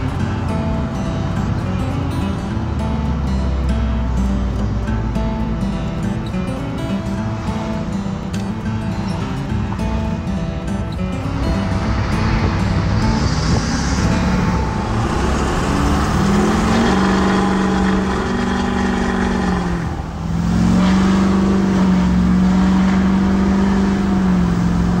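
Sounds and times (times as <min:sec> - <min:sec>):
diesel truck engine accelerating: 0:00.0 - 0:25.0.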